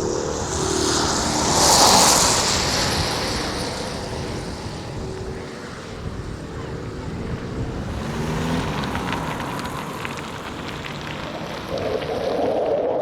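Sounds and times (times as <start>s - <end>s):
propeller aircraft passing overhead: 0.0s - 12.6s.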